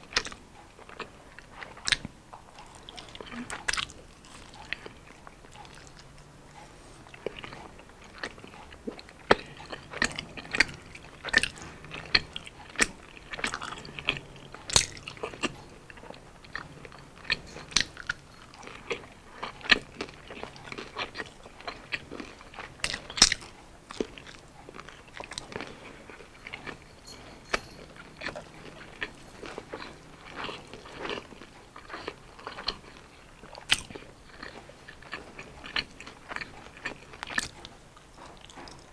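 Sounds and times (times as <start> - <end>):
chewing crispy fried food: 0.0 - 38.9.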